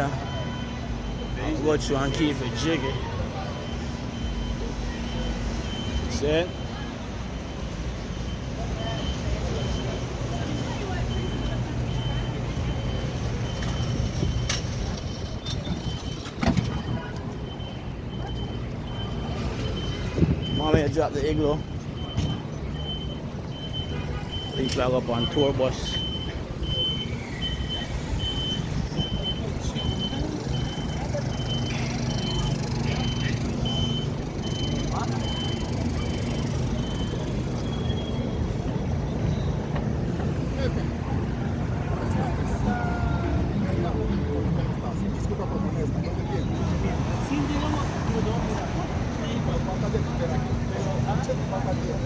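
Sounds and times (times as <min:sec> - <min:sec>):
reversing warning beeps: 0:00.0 - 0:52.0
street traffic noise: 0:00.0 - 0:52.0.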